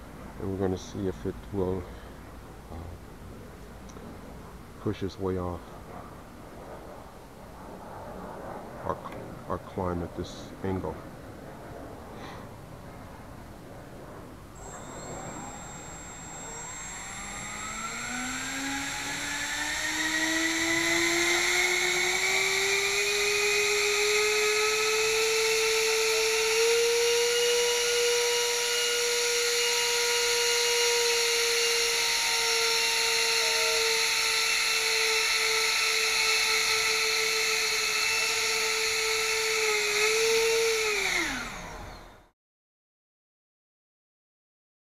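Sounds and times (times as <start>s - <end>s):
electric ducted fans whining: 0.0s - 42.3s.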